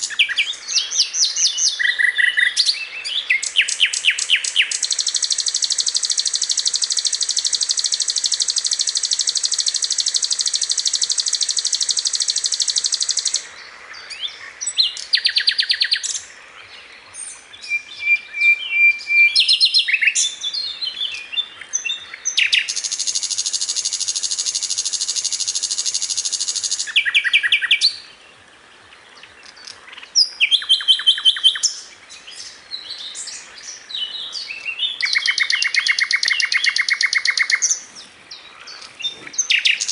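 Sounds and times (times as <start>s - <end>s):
flycatcher singing: 0.0s - 13.5s, 17.3s - 28.1s, 29.4s - 39.9s.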